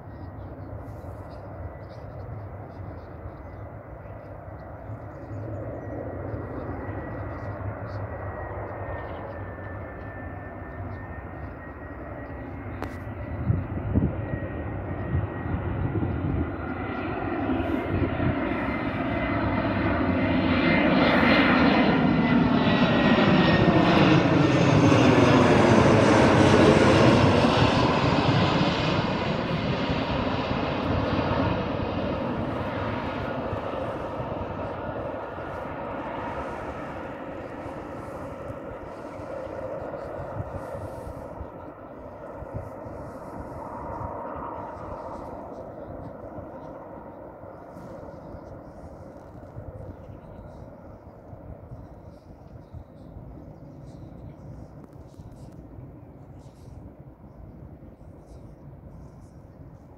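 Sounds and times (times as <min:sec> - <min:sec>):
jet engine passing overhead: 0:00.0 - 0:59.9.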